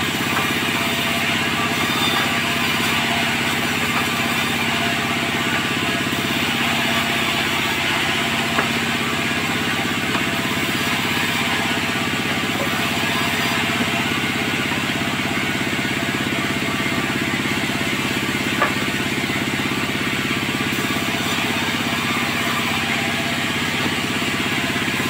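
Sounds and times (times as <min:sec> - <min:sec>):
sawmill machinery droning: 0:00.0 - 0:25.0.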